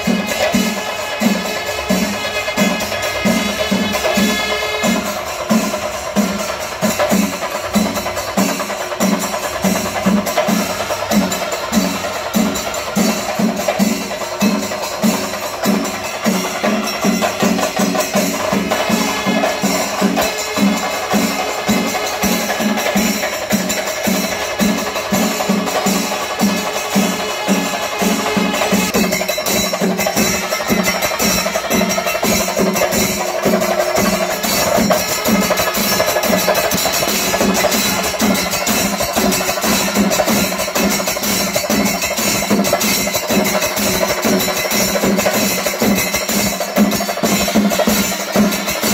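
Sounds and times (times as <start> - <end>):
clashing cymbals: 0.0 - 48.9
drums beating steady pulse: 0.0 - 48.9.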